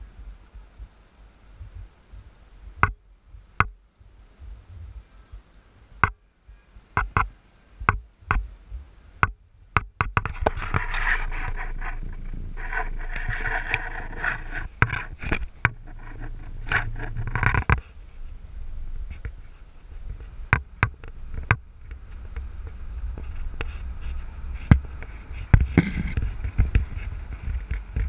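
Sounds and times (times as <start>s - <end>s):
tyres on dirt road: 0.0s - 28.0s.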